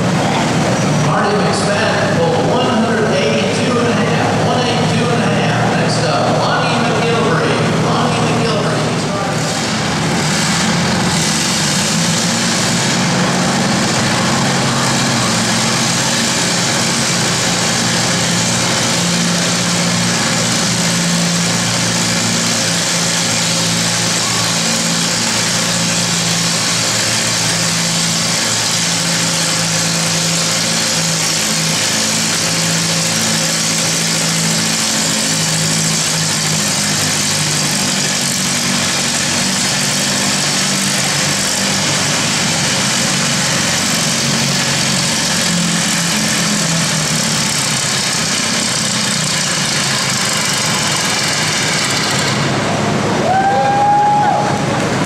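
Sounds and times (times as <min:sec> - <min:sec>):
tractor engine running under load: 0:00.0 - 0:53.4, 0:54.0 - 0:55.0.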